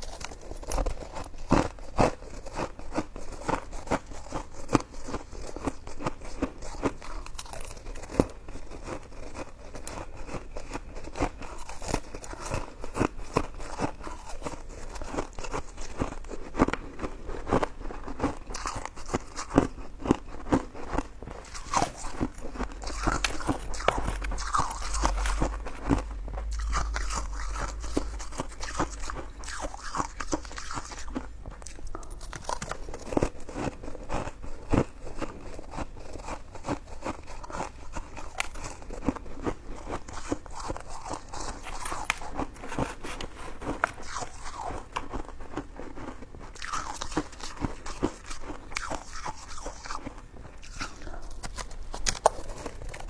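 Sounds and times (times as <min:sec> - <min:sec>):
biting and chewing: 0:00.0 - 0:53.0.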